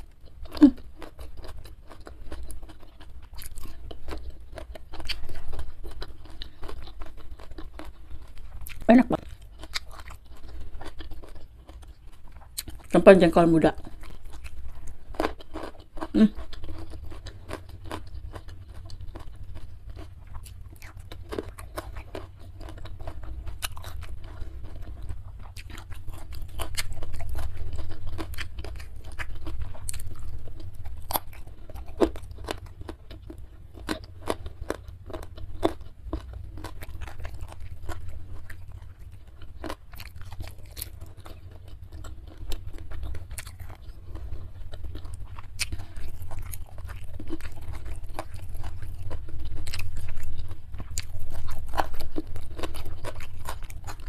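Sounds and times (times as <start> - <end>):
faint low hum: 0.0 - 54.0
person chewing crunchy food: 0.0 - 54.0.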